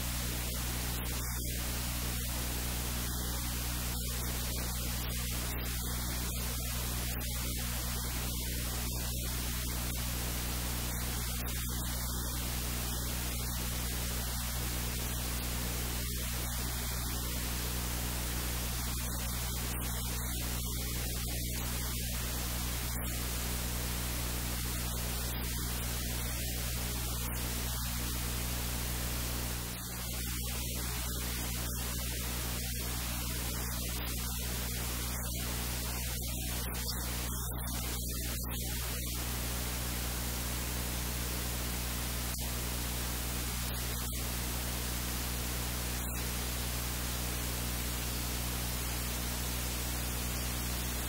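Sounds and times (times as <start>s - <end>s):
electrical hum: 0.0s - 51.0s
static hiss: 0.0s - 51.0s.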